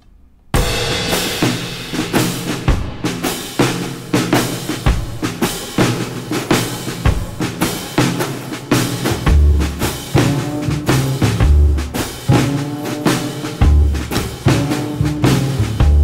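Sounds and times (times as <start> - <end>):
music with drum beat: 0.6 - 16.0.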